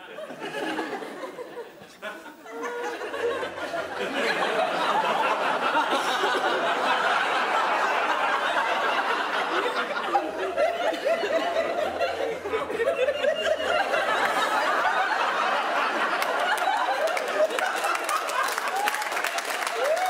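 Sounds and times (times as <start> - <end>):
audience laughter: 0.0 - 20.0.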